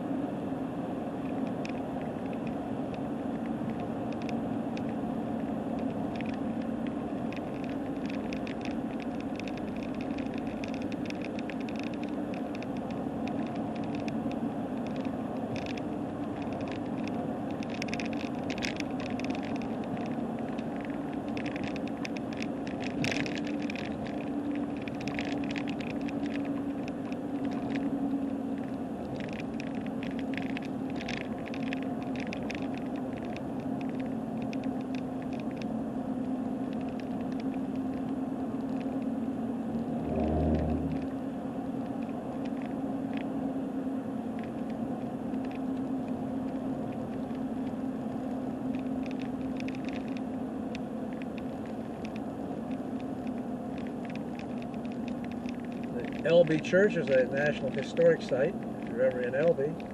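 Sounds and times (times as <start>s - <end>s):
car road and engine drone: 0.0s - 59.9s.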